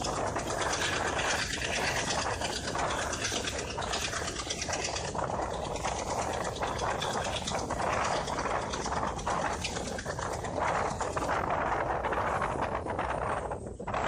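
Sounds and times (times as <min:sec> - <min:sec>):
train running at speed: 0:00.0 - 0:14.0
wind rushing: 0:00.0 - 0:14.0.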